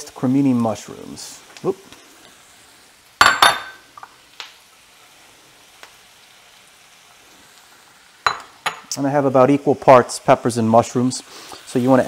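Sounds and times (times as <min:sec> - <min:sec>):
vegetables sizzling: 0:00.0 - 0:12.0.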